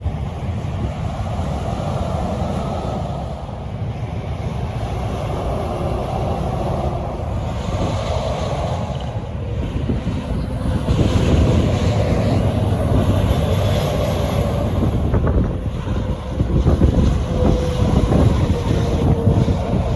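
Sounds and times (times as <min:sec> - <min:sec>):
road traffic rumble: 0:00.0 - 0:19.9
wind buffeting microphone: 0:00.0 - 0:19.9.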